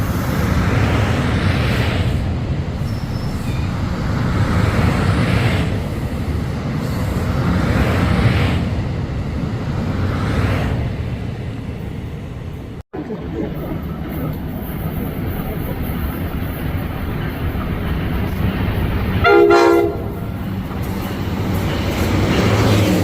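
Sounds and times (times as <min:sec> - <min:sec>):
passenger train rumbling past: 0:00.0 - 0:23.0.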